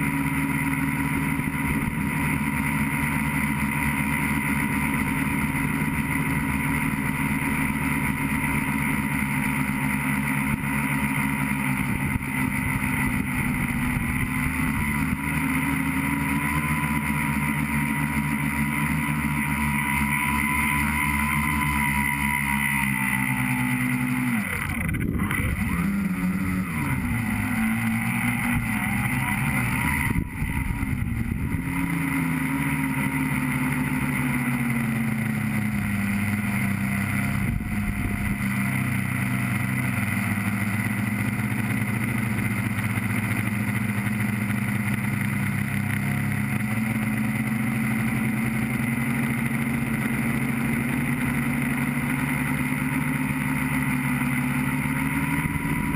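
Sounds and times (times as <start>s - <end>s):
drone motors and propellers whining: 0.0s - 55.9s.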